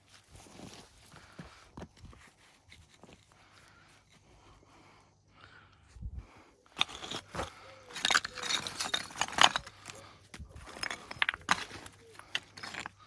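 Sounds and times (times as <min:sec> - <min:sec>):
stones clacking and scraping: 0:00.0 - 0:04.6, 0:06.7 - 0:13.0.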